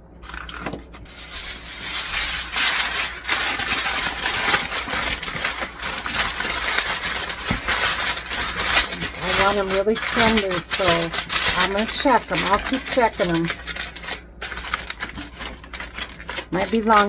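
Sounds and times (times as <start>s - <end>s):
aluminium foil crinkling: 0.2s - 17.0s.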